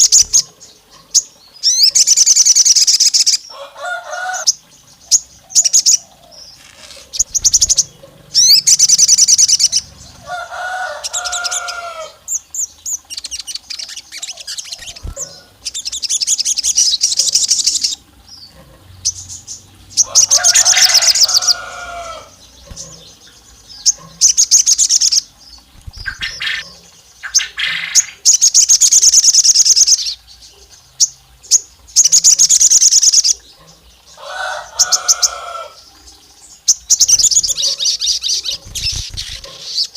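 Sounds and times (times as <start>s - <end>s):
songbird buzzy trills: 0.0s - 39.9s.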